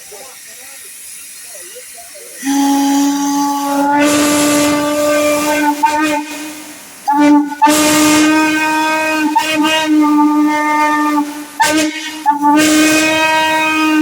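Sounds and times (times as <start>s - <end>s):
steam whistle blowing: 2.4s - 14.0s.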